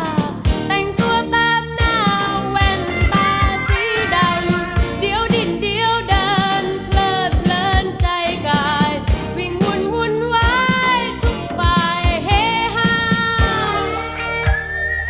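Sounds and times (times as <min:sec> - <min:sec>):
woman singing: 0:00.0 - 0:14.1
pop band with drum beat: 0:00.0 - 0:14.9.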